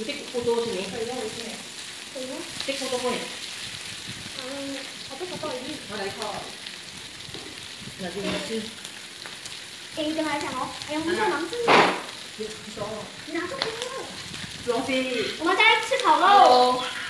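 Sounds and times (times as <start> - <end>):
voices: 0.0 - 3.5, 4.2 - 6.6, 7.8 - 8.8, 9.9 - 17.0
food sizzling on a grill: 0.0 - 17.0.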